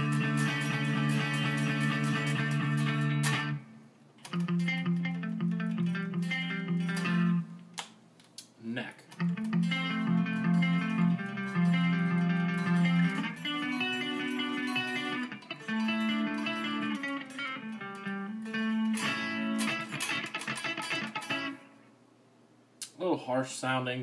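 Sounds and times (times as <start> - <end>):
electric guitar notes and chords: 0.0 - 7.8, 9.1 - 21.9.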